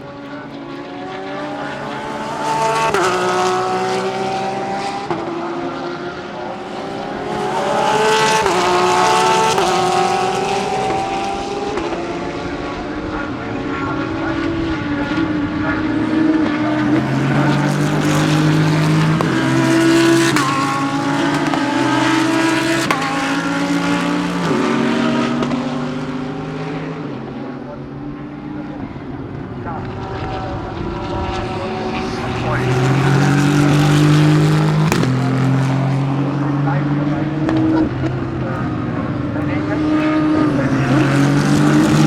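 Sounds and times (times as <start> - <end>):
race cars driving past: 0.0 - 42.0.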